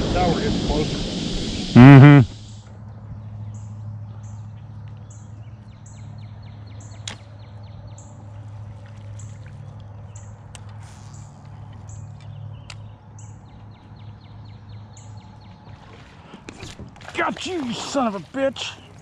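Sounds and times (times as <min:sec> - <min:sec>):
low hum: 0:00.0 - 0:17.1.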